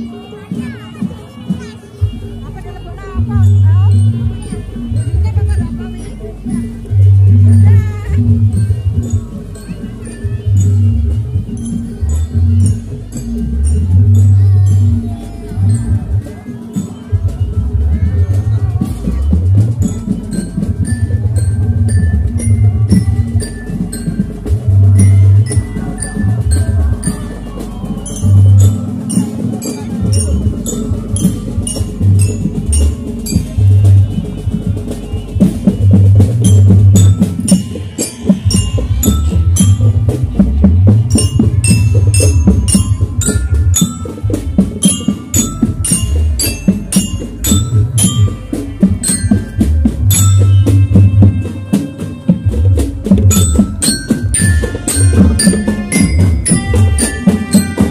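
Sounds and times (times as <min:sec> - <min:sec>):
heavy low drum beats: 0:00.0 - 0:57.9
percussion-led music: 0:00.0 - 0:57.9.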